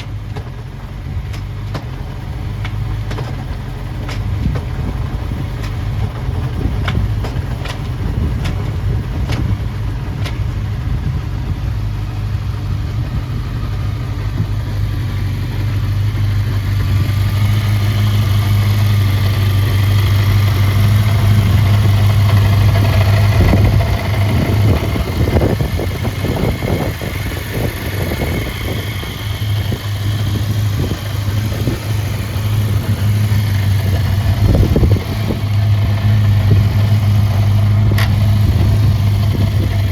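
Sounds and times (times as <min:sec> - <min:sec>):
motorcycle engine humming: 0:00.0 - 0:39.9.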